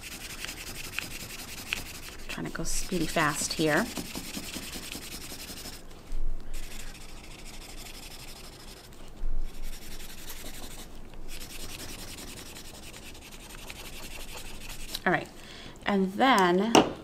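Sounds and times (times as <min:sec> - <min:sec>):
marker scribbling on paper: 0:00.0 - 0:05.8, 0:06.5 - 0:15.0.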